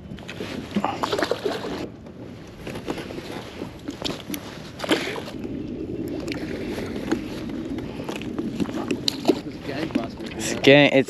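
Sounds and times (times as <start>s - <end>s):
waves lapping against kayak hull: 0.0s - 11.0s.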